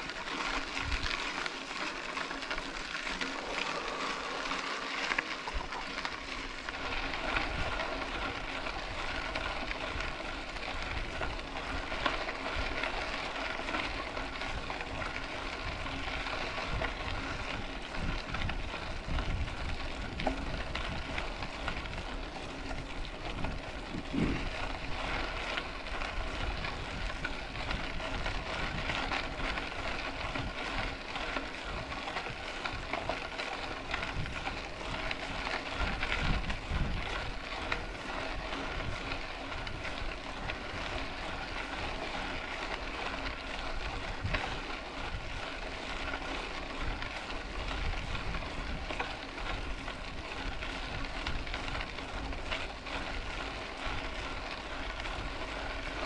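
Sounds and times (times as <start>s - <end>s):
bike tyres on gravel: 0.0s - 56.0s.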